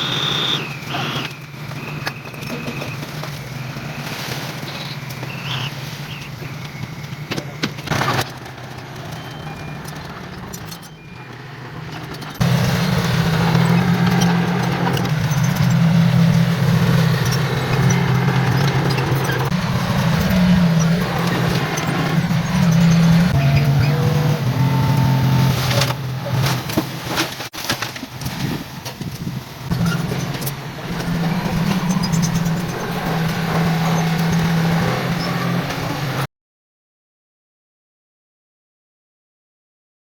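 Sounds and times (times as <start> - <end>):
heavy diesel machinery engine: 0.0 - 27.5, 28.3 - 36.2.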